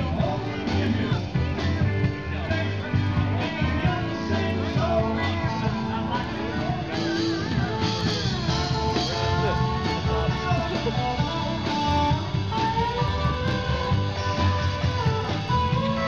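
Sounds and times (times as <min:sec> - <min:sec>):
person singing: 0:00.0 - 0:14.4
drums: 0:00.0 - 0:16.0
guitar: 0:00.0 - 0:16.0.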